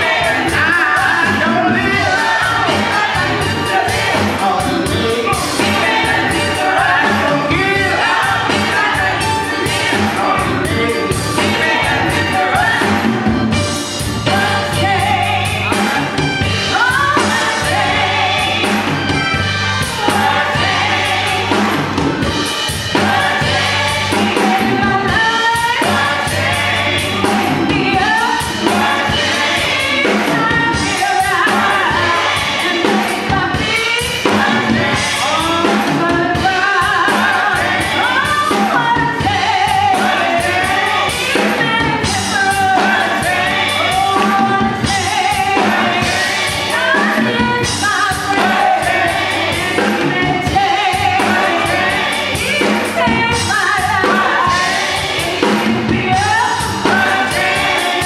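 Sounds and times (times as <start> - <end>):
instrumental accompaniment: 0.0 - 58.0
women singing gospel: 0.0 - 58.0.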